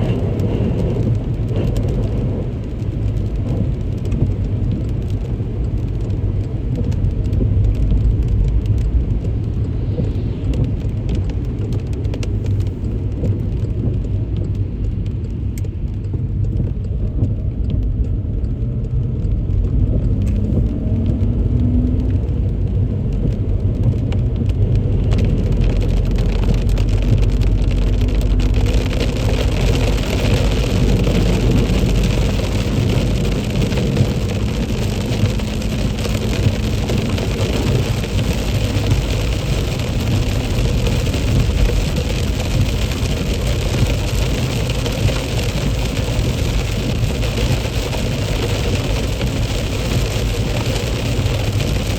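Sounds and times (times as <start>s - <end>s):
car engine and tyres on wet road: 0.0s - 51.9s
heavy rain on car: 0.0s - 51.9s.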